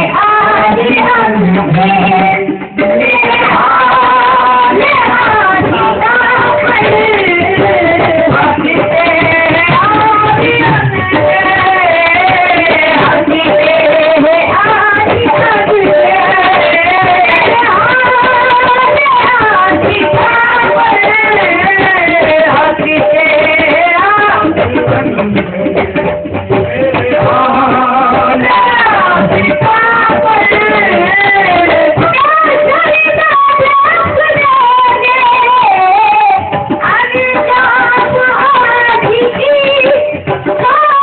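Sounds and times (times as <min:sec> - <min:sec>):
drumming: 0:00.0 - 0:41.0.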